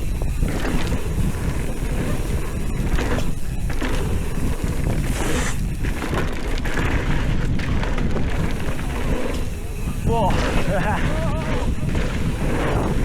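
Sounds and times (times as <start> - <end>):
bike rattling over rough ground: 0.0 - 13.0
wind buffeting microphone: 0.0 - 13.0.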